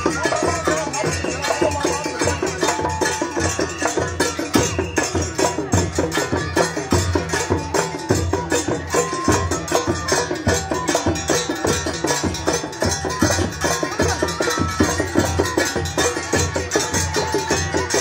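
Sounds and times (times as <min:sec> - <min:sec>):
hand drums beating fast rhythm: 0:00.0 - 0:18.0.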